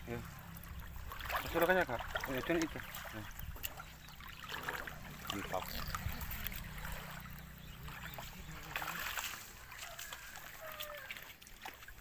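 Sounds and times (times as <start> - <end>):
feet splashing in shallow water: 0.0 - 12.0.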